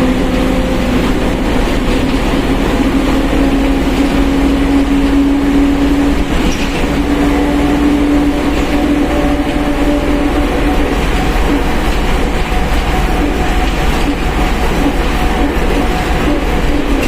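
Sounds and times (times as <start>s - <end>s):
bus differential whining: 0.0s - 17.0s
bus engine and road rumble: 0.0s - 17.0s.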